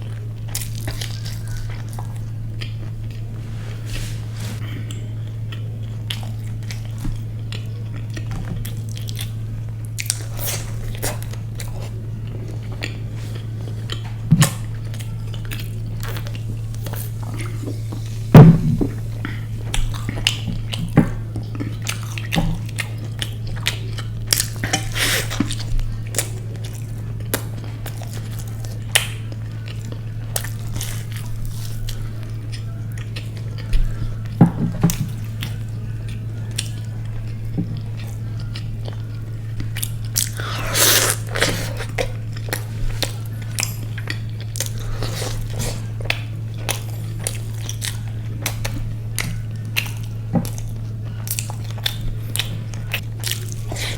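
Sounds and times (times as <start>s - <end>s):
chewing crunchy fried food: 0.0s - 53.9s
steady low hum: 0.0s - 53.9s.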